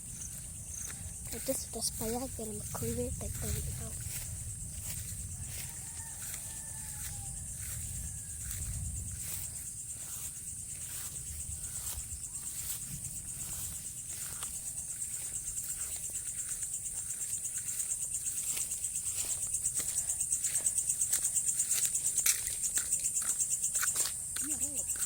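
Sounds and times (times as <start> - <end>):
cricket trilling: 0.0 - 25.0.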